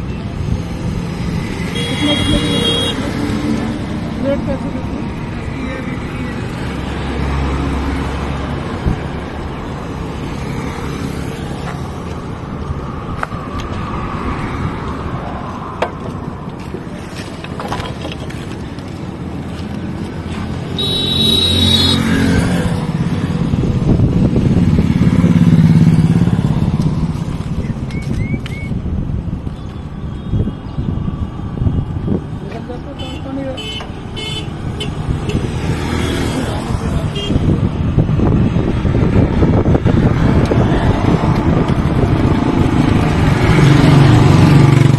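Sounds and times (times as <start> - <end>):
vehicles passing: 0.0 - 44.9.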